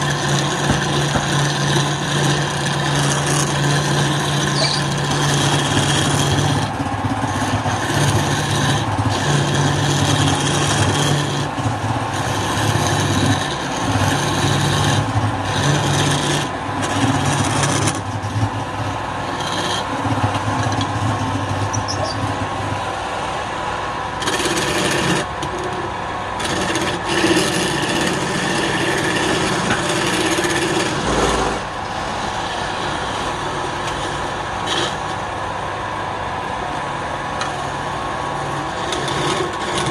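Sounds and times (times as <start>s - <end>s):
lathe tool scraping wood: 0.0s - 39.9s
wood lathe hum: 0.0s - 39.9s.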